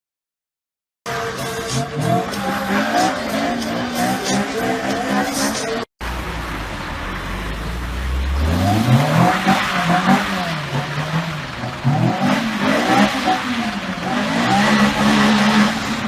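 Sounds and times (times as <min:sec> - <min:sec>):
sports car engine revving: 0:01.1 - 0:16.0.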